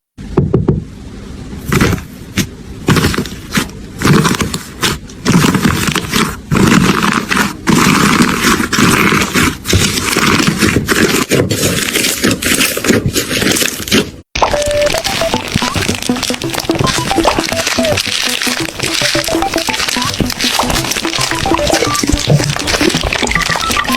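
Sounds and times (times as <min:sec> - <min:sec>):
slime squishing and scraping: 0:01.6 - 0:23.9.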